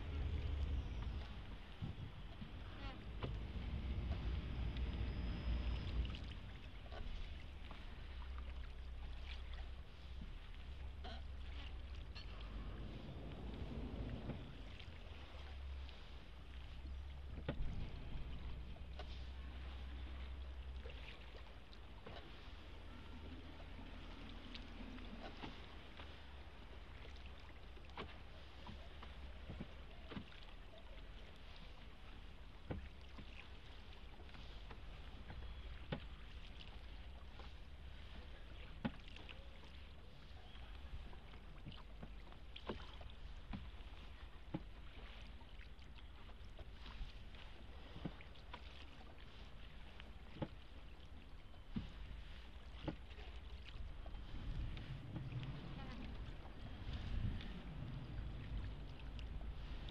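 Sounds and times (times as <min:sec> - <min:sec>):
low rumble of water: 0:00.0 - 0:59.9
oar clicks and splashes: 0:00.0 - 0:59.9.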